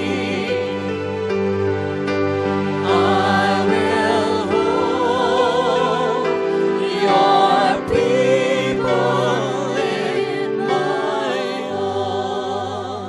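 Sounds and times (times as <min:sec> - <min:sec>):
choir singing worship song: 0:00.0 - 0:13.0
sustained accompaniment: 0:00.0 - 0:13.0.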